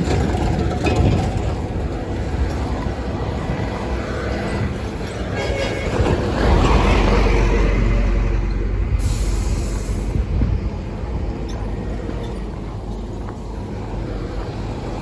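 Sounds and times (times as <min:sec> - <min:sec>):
heavy truck engine rumble and rattle: 0:00.0 - 0:15.0.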